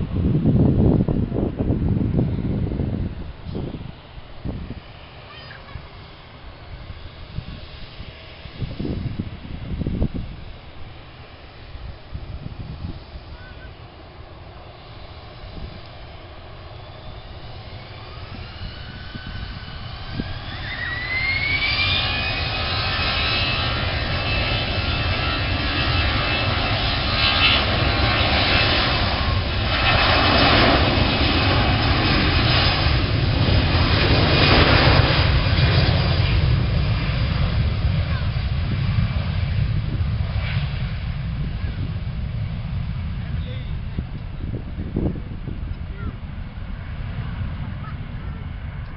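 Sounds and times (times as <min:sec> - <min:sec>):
jet engines spooling up: 0:01.2 - 0:47.8.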